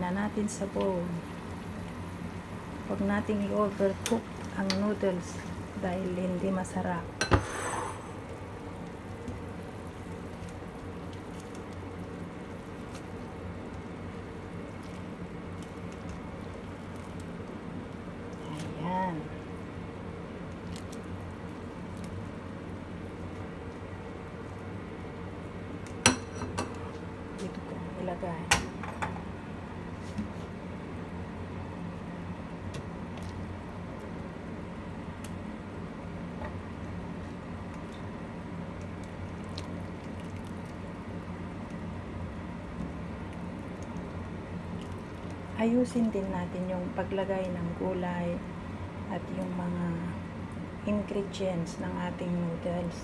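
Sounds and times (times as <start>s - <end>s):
low kitchen hum: 0.0s - 53.0s
soup bubbling: 1.0s - 27.3s, 30.6s - 47.8s.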